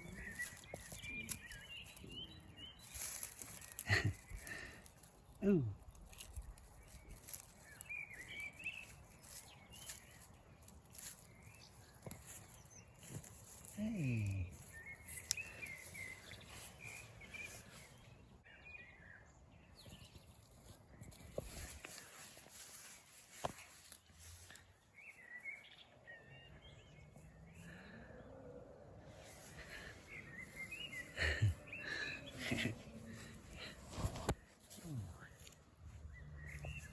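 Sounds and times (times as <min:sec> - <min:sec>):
outdoor background noise: 0:00.0 - 0:36.9
songbird chirping: 0:00.0 - 0:36.9.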